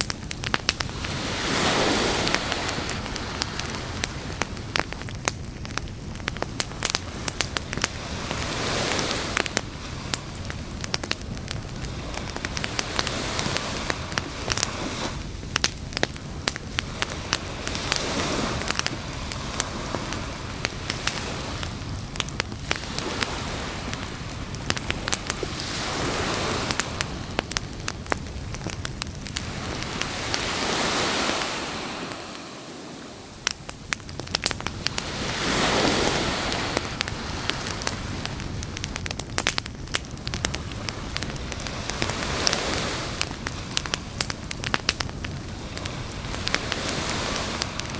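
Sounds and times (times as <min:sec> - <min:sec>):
campfire crackling and popping: 0:00.0 - 0:47.9
waves washing onto beach: 0:00.0 - 0:47.9.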